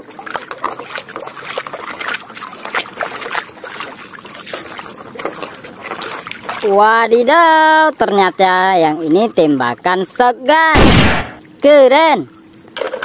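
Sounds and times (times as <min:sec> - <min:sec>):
water sloshing in plastic tub: 0:00.0 - 0:10.7.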